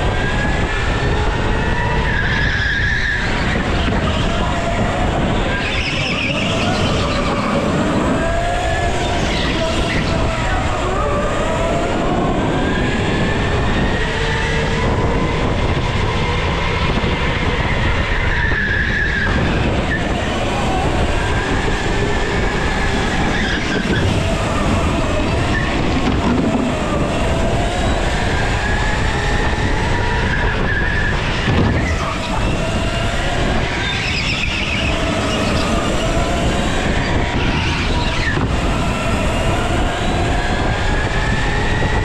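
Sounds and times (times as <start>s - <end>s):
go-kart motors whining: 0.0s - 42.0s.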